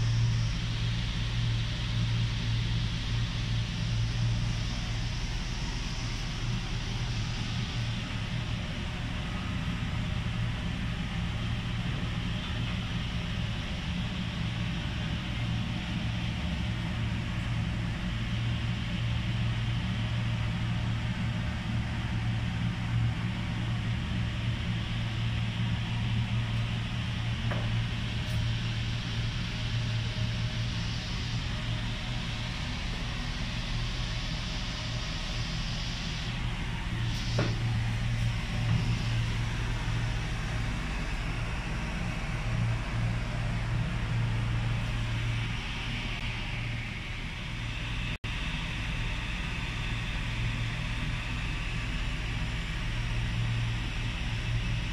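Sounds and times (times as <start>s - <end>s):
mechanical hum with air hiss: 0.0s - 54.9s.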